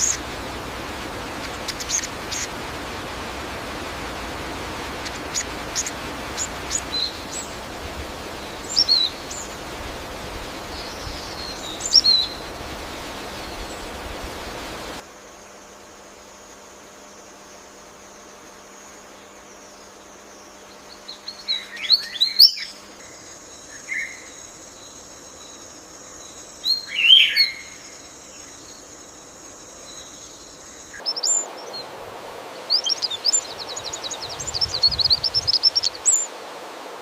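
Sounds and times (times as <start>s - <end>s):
birds chirping: 0.0s - 15.0s, 19.0s - 36.3s
steady background hiss: 0.0s - 37.0s.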